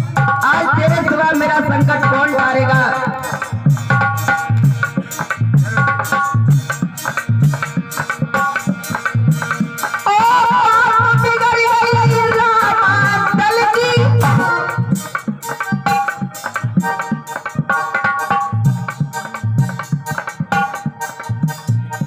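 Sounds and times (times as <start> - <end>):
hand drum beat: 0.0 - 22.0
harmonium melody: 0.0 - 22.0.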